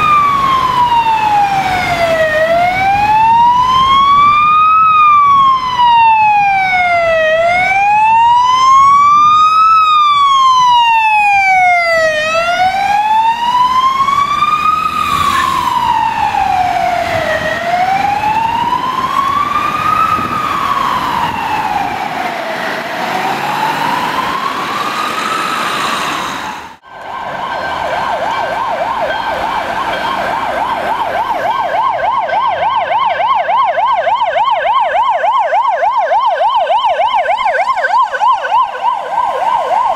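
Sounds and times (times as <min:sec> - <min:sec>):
ambulance siren fast yelp: 0:00.0 - 0:39.9
ambulance siren wailing: 0:00.0 - 0:39.9.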